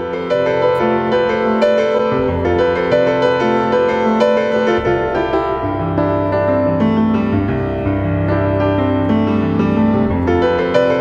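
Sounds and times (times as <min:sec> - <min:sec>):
piano playing held chords: 0:00.0 - 0:11.0.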